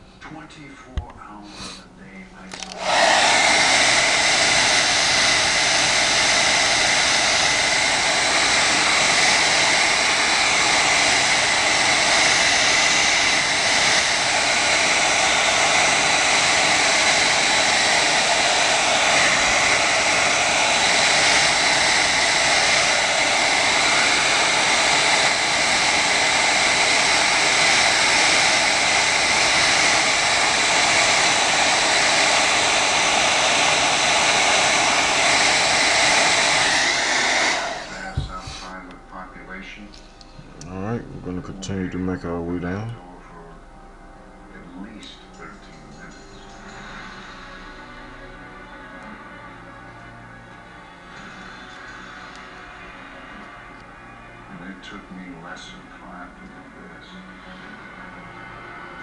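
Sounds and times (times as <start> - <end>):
blow dryer running: 2.5 - 39.0, 46.1 - 59.0.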